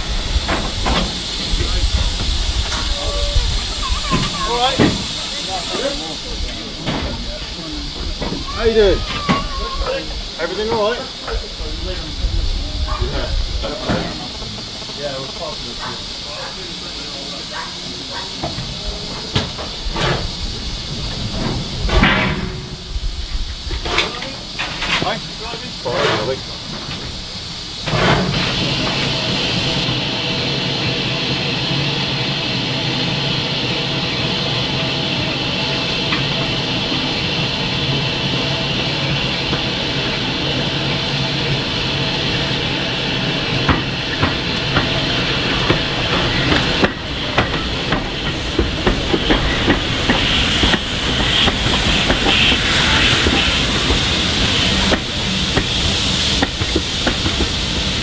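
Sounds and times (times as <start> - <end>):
steam locomotive hissing: 0.0 - 58.0
train wheels clicking over rail joints: 0.0 - 58.0.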